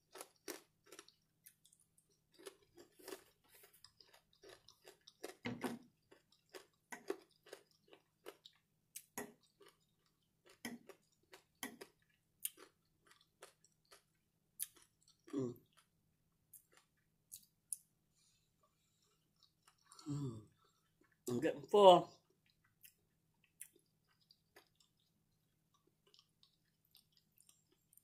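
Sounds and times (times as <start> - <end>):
crunchy chewing: 0.0 - 15.9, 16.5 - 17.9, 19.0 - 21.2, 22.2 - 28.0.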